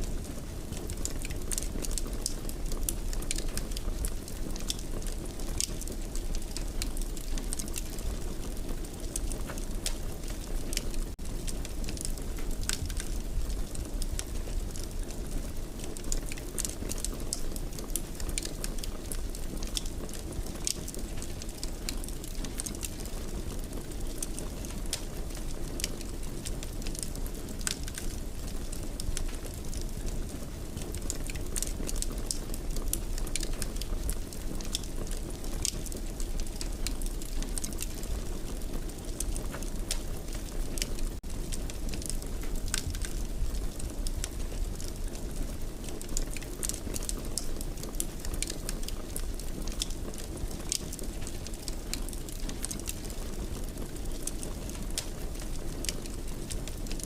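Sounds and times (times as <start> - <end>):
fire crackling in fireplace: 0.0 - 57.0.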